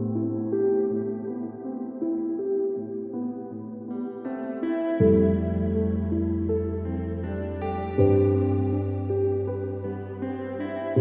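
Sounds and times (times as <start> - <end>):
slow ambient keyboard music: 0.0 - 11.0.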